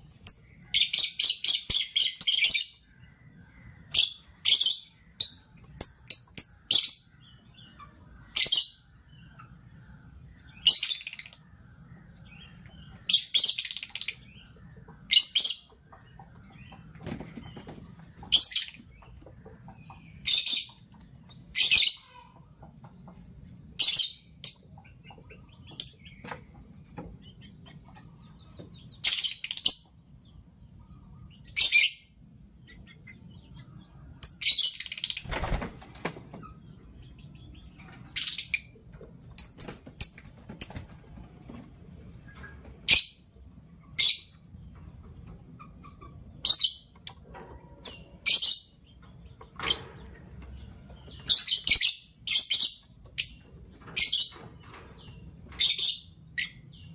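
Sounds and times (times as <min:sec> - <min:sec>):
lovebirds chirping: 0:00.0 - 0:56.9.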